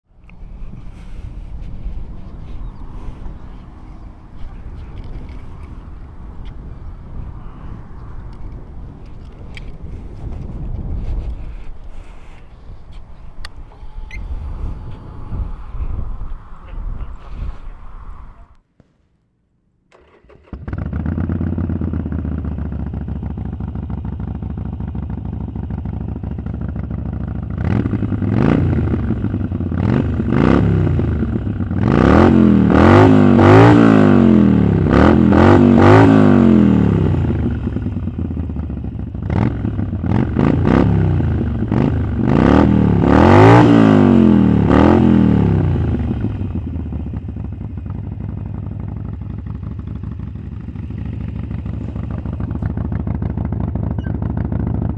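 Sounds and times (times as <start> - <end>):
motorcycle engine idling and revving: 0.0 - 18.7, 19.9 - 54.9.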